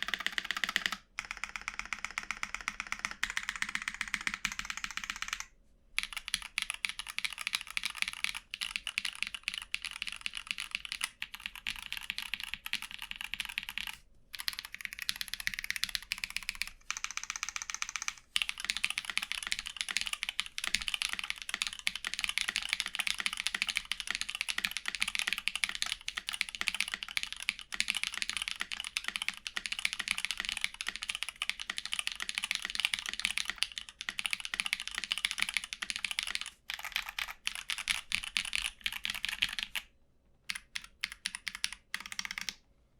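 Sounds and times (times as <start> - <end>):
mechanical keyboard typing: 0.0 - 42.6.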